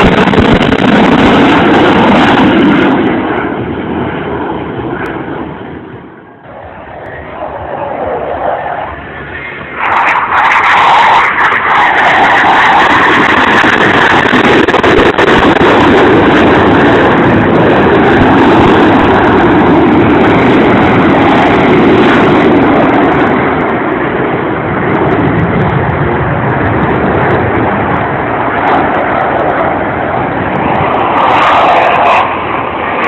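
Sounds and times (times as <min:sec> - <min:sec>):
jets roaring past: 0:00.0 - 0:33.0.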